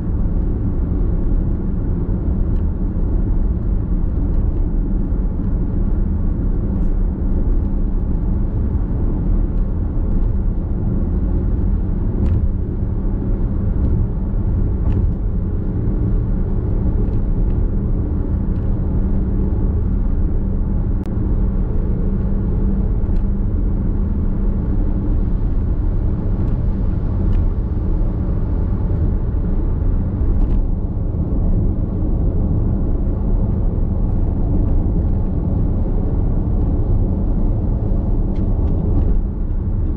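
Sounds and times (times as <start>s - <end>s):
road and tyre rumble in car: 0.0s - 39.9s.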